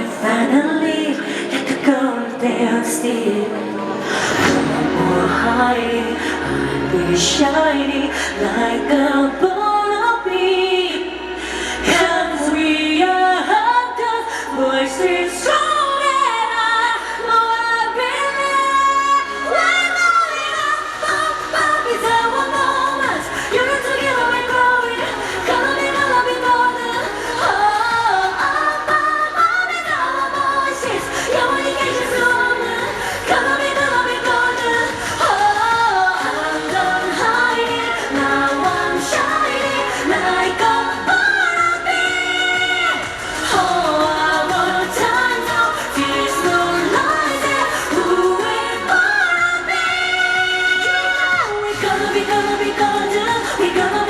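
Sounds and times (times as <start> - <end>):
woman singing: 0.0 - 54.0.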